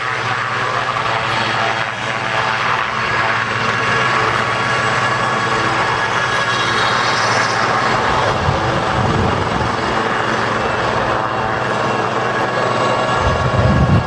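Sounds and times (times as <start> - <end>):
helicopters flying: 0.0 - 14.0.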